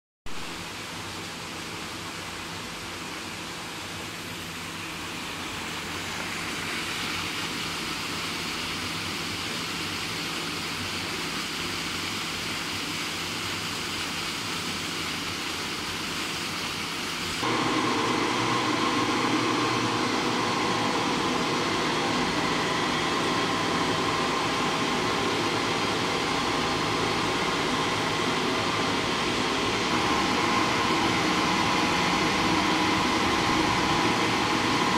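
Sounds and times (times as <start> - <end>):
turbine and generator humming: 0.3 - 34.9
water rushing: 4.5 - 34.9.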